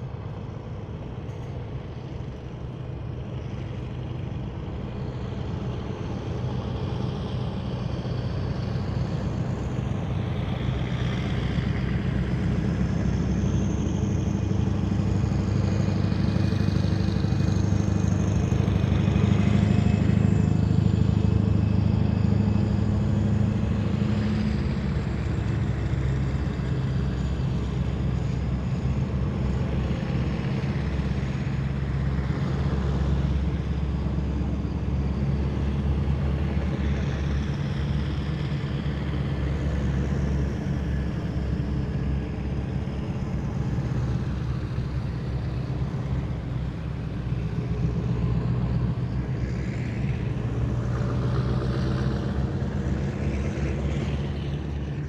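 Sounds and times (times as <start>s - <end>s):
heavy vehicles diesel drone: 0.0s - 55.0s
high engine whine: 0.0s - 55.0s.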